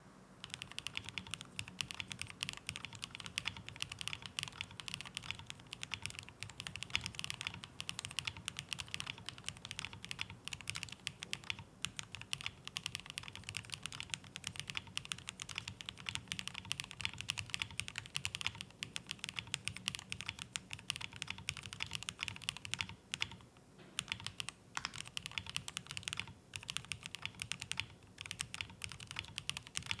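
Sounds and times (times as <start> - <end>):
fast typing on keyboard: 0.4 - 23.4, 24.0 - 30.0.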